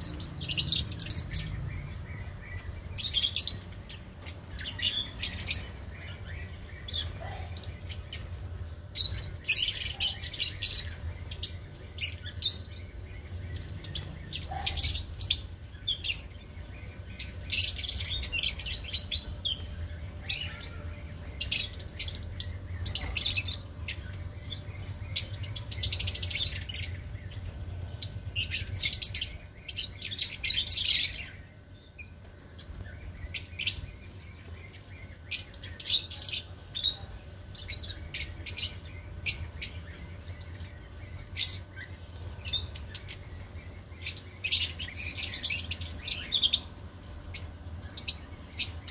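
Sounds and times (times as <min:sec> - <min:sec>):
lovebirds chirping: 0:00.0 - 0:48.9
steady low hum: 0:00.0 - 0:48.9.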